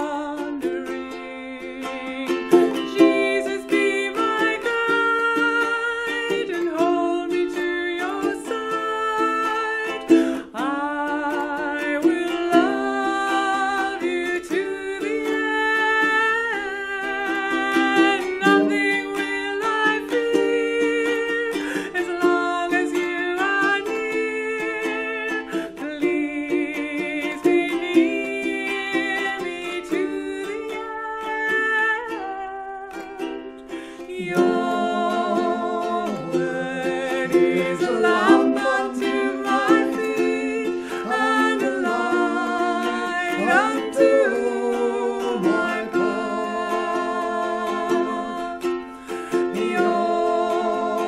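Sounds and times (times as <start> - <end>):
ukulele: 0.0 - 51.0
woman singing: 0.0 - 51.0.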